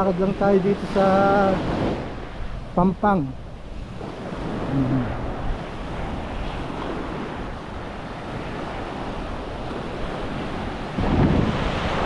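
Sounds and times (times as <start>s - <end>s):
ocean surf on sandy beach: 0.0s - 12.0s
wind rumbling on microphone: 0.0s - 12.0s.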